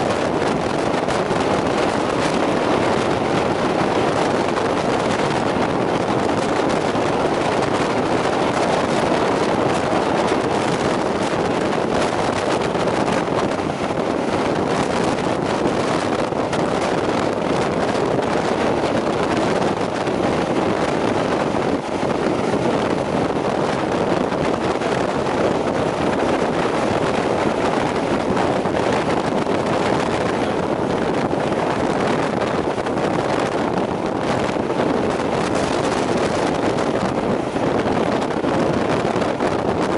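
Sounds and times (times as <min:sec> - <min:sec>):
train running on rails: 0:00.0 - 0:39.9
wind rushing over microphone: 0:00.0 - 0:39.9.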